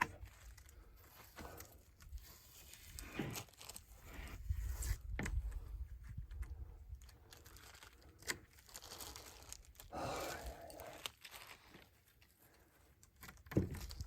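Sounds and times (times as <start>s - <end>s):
tape peeling clicks and crackles: 0.0s - 3.9s, 5.0s - 9.9s, 10.7s - 14.0s.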